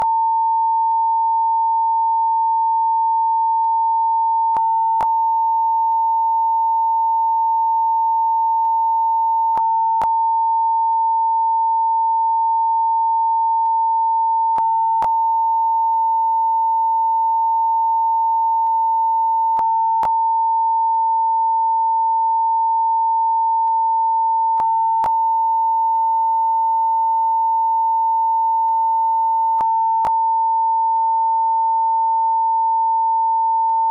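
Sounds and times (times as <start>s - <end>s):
censor beep: 0.0s - 33.9s.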